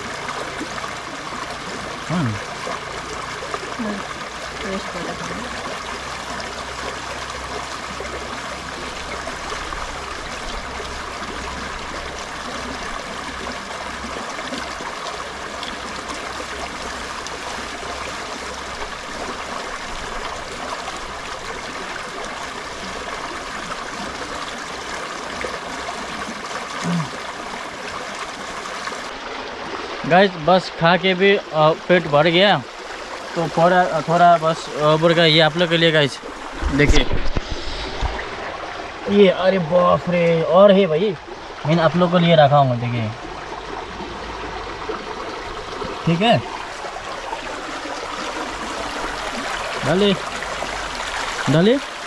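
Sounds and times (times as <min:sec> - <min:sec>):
stream running over rocks: 0:00.0 - 0:52.0.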